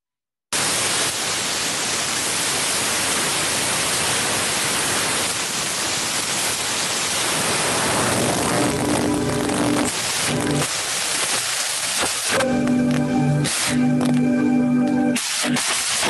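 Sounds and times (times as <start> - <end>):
loud steady static hiss: 0.5 - 16.0.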